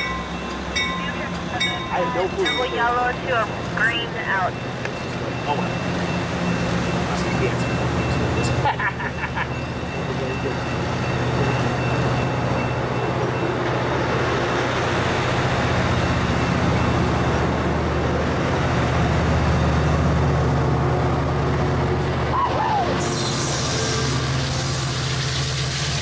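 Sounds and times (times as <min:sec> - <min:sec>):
diesel locomotive drone: 0:00.0 - 0:26.0
train wheels on rails: 0:00.0 - 0:26.0.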